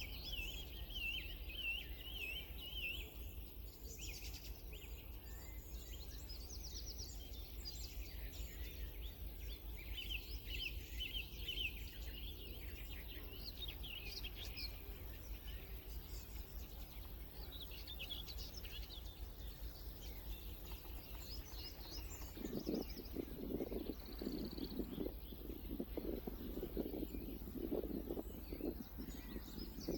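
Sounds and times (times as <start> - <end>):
small birds trilling and chirping: 0.0 - 29.9.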